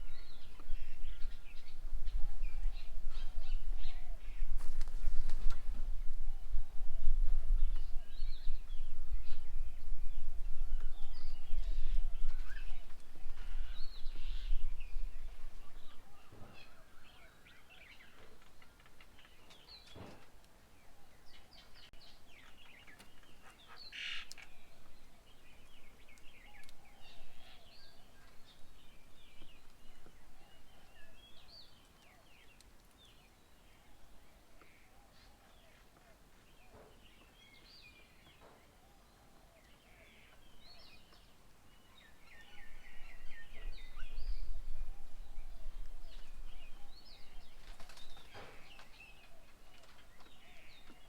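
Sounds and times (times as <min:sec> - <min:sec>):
birds chirping and calling: 0:00.0 - 0:51.0.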